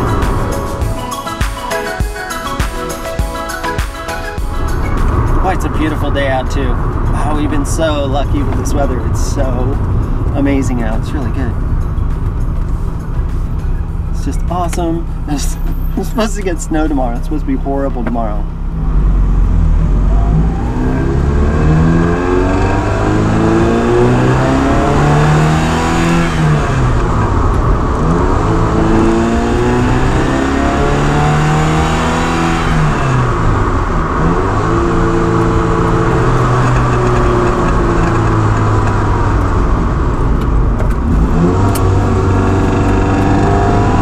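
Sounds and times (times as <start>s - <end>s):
sports car engine accelerating: 2.4s - 44.0s.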